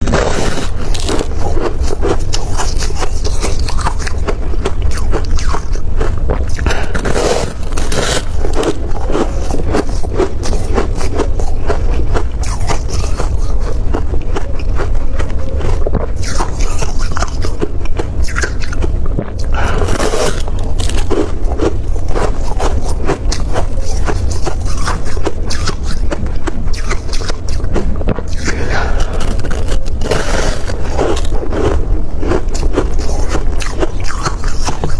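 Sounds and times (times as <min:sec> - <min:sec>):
freezer frost crunching: 0:00.0 - 0:34.9
low rumble: 0:00.0 - 0:34.9
low steady hum: 0:00.0 - 0:34.9.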